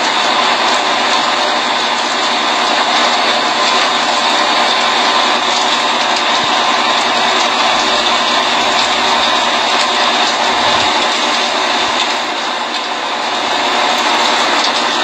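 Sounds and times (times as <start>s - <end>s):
pump machine hum: 0.0s - 15.0s.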